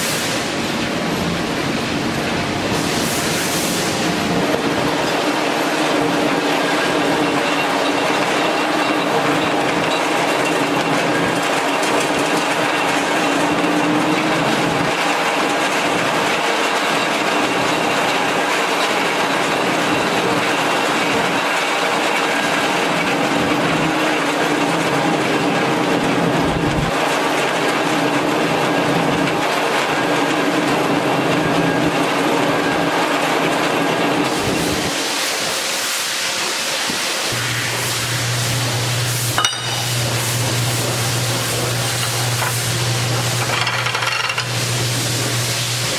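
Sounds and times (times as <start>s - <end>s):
band saw running: 0.0s - 35.4s, 36.3s - 45.9s.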